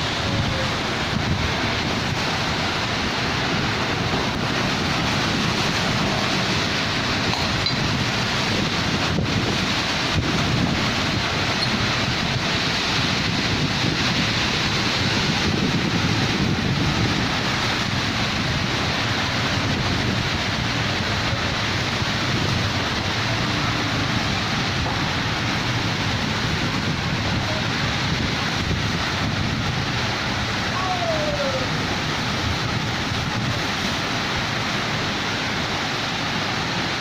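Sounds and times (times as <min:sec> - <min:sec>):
heavy rain: 0:00.0 - 0:37.0
strong wind: 0:00.0 - 0:37.0.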